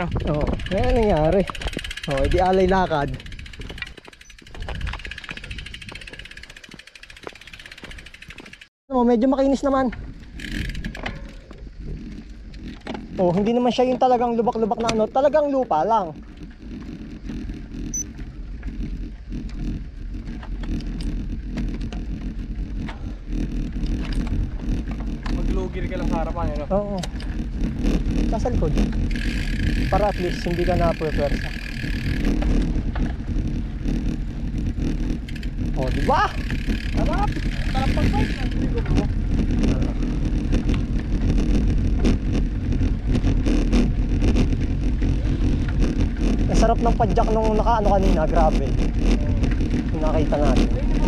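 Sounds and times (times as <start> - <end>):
wind on microphone: 0.0 - 8.5, 9.7 - 51.0
bike tyres on dirt: 0.0 - 51.0
grit ticks and bike rattles: 0.0 - 51.0.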